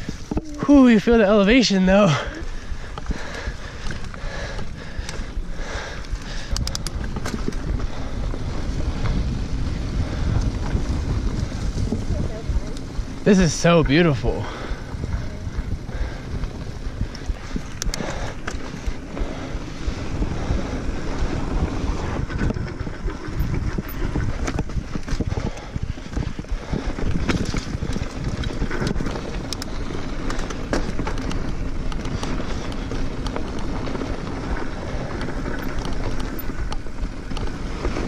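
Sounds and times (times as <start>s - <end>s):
bike clicks and rattles: 0.0s - 38.0s
bike tyres rolling on dirt: 0.0s - 38.0s
wind buffeting microphone: 0.0s - 38.0s.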